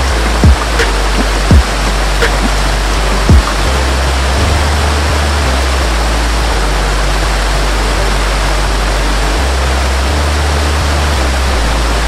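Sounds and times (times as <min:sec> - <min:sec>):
low deep tone: 0:00.0 - 0:12.0
waterfall rushing: 0:00.0 - 0:12.0.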